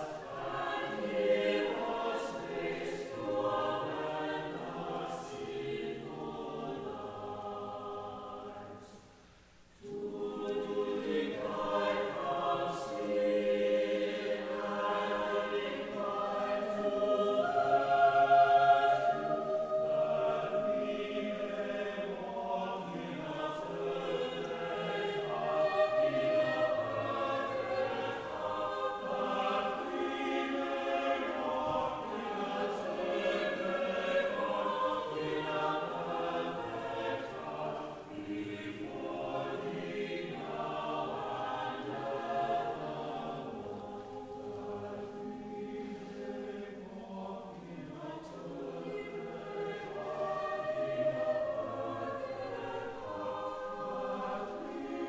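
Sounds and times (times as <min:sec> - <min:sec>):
choir singing: 0:00.0 - 0:09.2, 0:09.8 - 0:55.0.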